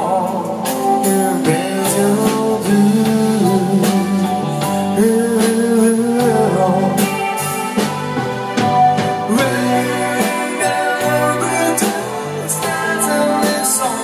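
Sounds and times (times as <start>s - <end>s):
band playing pop ballad: 0.0s - 14.0s
person singing: 0.0s - 14.0s.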